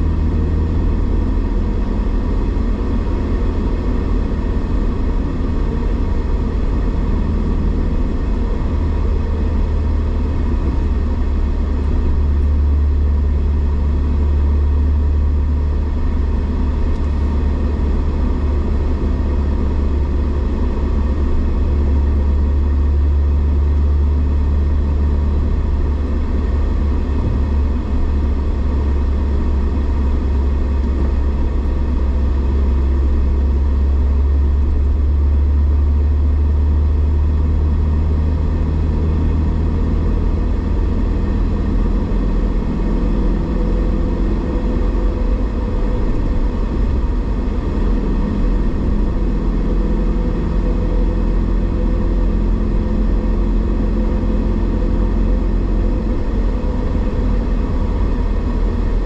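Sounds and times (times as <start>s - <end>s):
car driving inside cabin: 0.0s - 59.0s.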